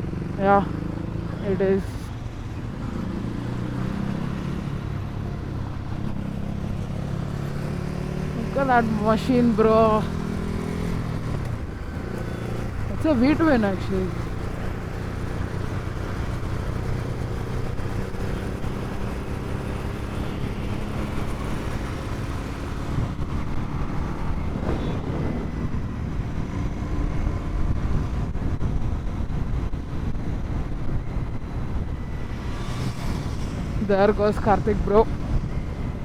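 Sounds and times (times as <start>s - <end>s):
road noise: 0.0s - 36.0s.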